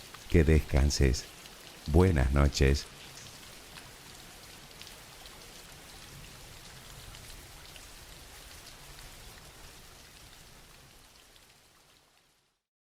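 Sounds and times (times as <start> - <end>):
soft steady rain: 0.0 - 12.7.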